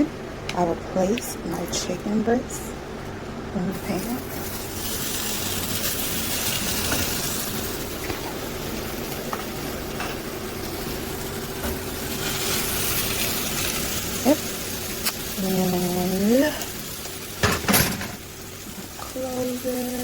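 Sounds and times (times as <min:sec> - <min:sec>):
oven fan humming: 0:00.0 - 0:20.0
oil sizzling in a pan: 0:03.7 - 0:20.0.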